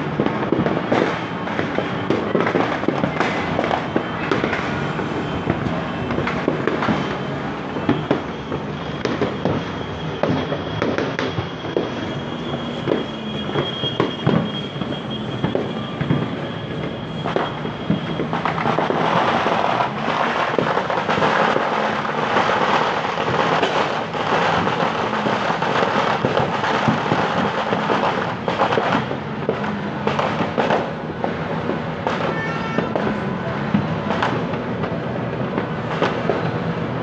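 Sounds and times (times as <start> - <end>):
fireworks bangs and pops: 0.0 - 37.0.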